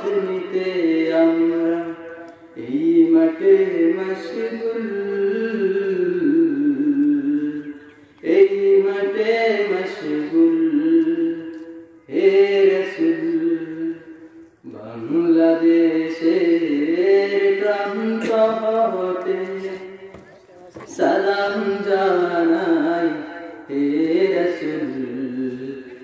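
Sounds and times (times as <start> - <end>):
young man singing unaccompanied: 0.0 - 26.0.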